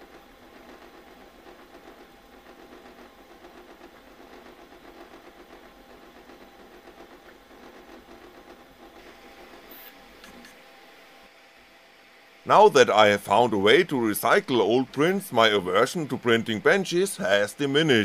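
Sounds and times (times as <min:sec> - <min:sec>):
printer stepper motors whirring: 0:00.0 - 0:11.3, 0:12.5 - 0:18.0.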